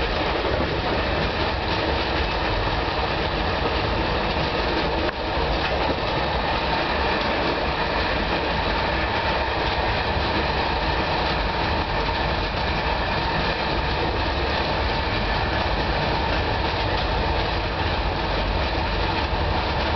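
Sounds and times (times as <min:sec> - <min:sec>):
train wheel and track noise: 0:00.0 - 0:19.9.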